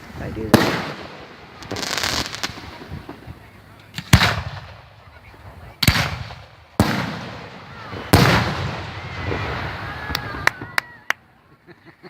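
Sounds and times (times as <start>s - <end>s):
firework shells booming: 0.0s - 10.8s
rolling echo: 0.3s - 10.8s.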